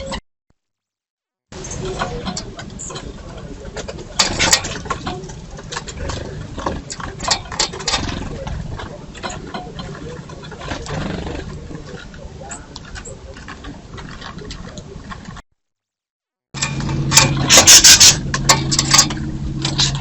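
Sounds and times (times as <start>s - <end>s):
birds tapping and rustling at feeder: 1.6s - 15.4s, 16.6s - 20.0s.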